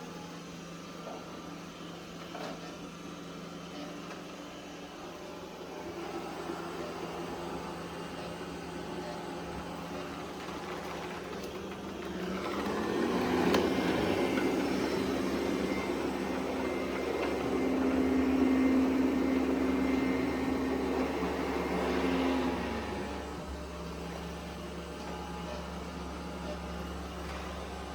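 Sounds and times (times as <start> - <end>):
robot vacuum motor hum: 4.8 - 27.9.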